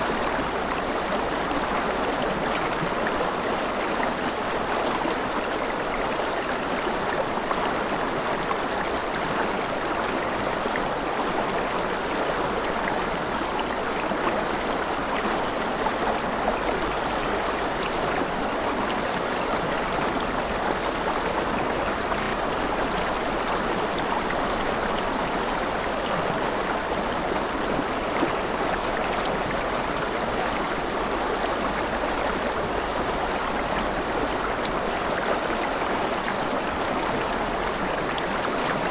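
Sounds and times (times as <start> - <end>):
river water flowing and splashing: 0.0 - 38.9.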